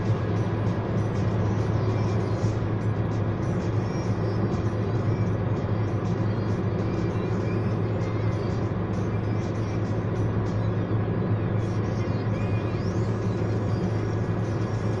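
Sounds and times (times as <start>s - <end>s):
car engine hum: 0.0s - 15.0s
tyre and road noise: 0.0s - 15.0s.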